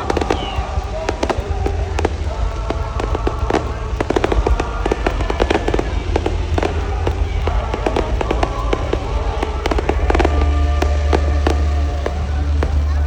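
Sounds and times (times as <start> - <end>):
fireworks bangs and crackles: 0.0 - 13.0
music with held notes: 0.0 - 13.0.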